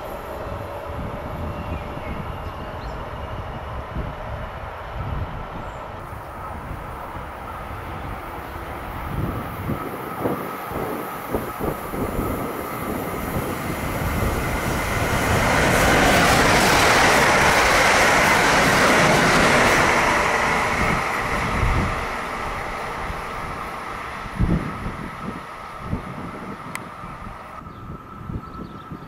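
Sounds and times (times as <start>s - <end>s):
electric train passing on rails: 0.0s - 29.0s.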